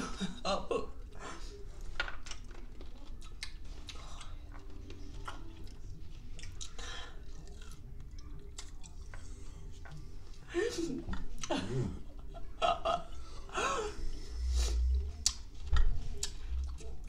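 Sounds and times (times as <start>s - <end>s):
people chewing: 0.0s - 17.0s.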